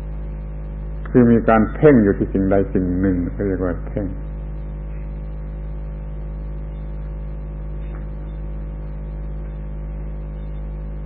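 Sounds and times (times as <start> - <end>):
low electrical hum: 0.0 - 11.0
tape hiss: 0.0 - 11.0.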